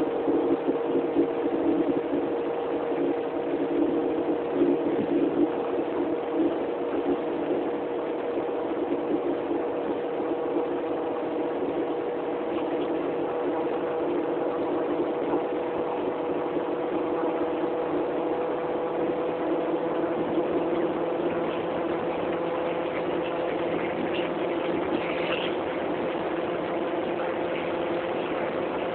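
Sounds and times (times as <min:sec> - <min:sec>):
car engine running drone: 0:00.0 - 0:28.9.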